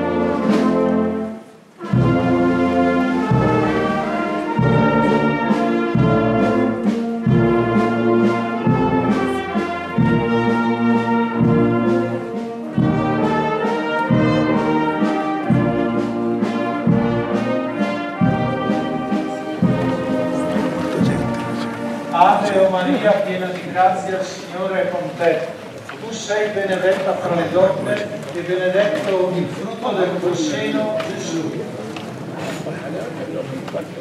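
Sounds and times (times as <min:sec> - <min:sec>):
brass band playing: 0:00.0 - 0:31.6.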